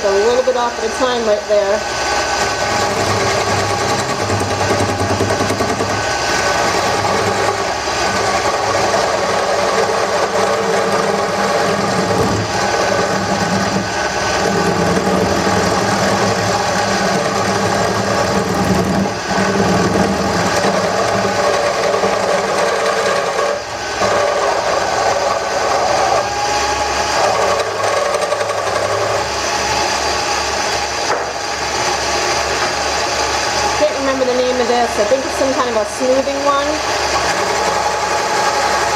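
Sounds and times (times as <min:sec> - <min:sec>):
turning tool cutting wood: 0:00.0 - 0:38.9
wood lathe motor hum: 0:00.0 - 0:38.9.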